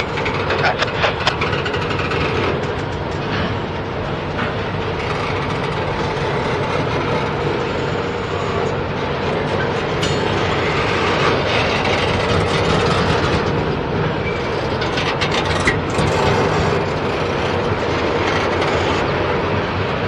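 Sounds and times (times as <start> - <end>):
train wheels rumbling on rail: 0.0 - 20.0
wheels clicking over rail joints: 0.0 - 20.0.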